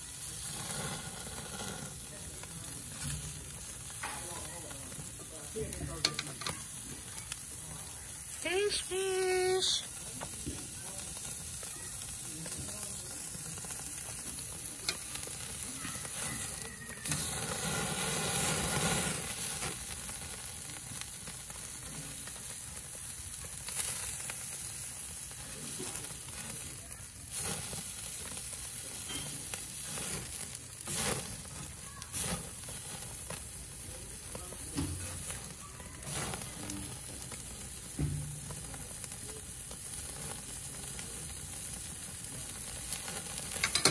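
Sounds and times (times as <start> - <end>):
fish and meat sizzling on grill: 0.0 - 43.9
sharp crackles: 0.0 - 43.9.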